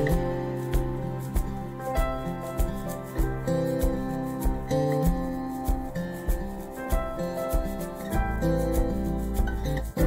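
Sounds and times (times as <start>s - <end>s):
regular drum beat: 0.0s - 10.0s.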